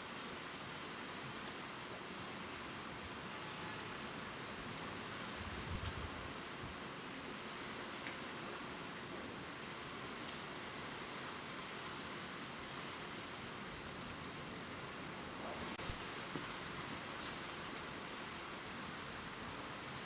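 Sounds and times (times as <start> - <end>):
gentle rain on leaves: 0.0 - 20.0.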